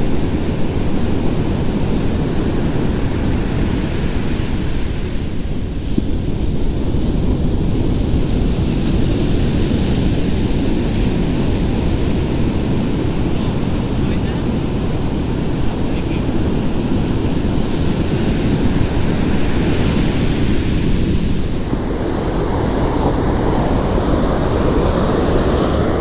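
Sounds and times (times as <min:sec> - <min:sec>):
ocean surf breaking: 0:00.0 - 0:26.0
wind rumbling on microphone: 0:00.0 - 0:26.0.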